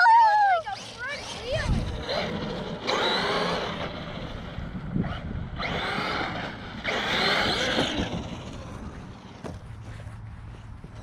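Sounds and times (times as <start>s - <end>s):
electric toy car spinning tyres in mud: 0.1s - 9.5s.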